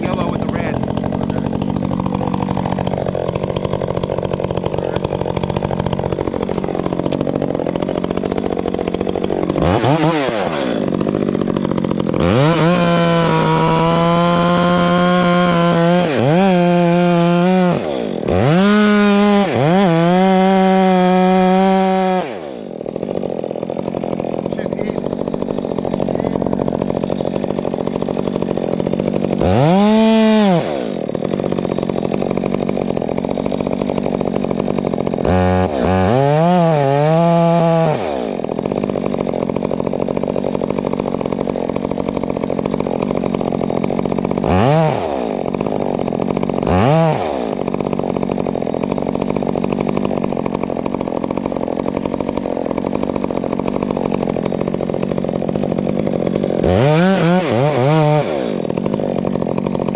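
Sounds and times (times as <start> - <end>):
chainsaw idling and revving: 0.0 - 59.9.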